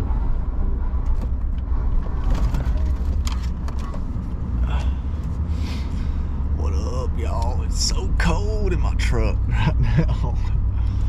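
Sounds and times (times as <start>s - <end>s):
truck rumble inside cab: 0.0s - 11.0s.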